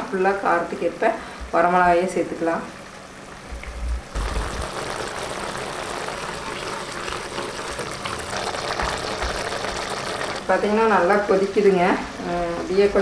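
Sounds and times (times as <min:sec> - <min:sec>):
water boiling in a pot: 0:00.0 - 0:13.0.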